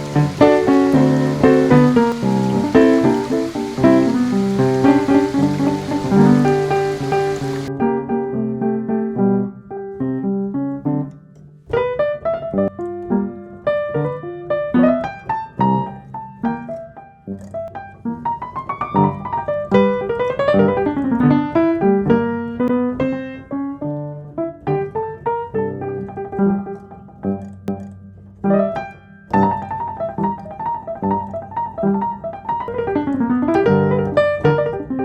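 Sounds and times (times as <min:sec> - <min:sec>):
calm piano melody: 0:00.0 - 0:35.0.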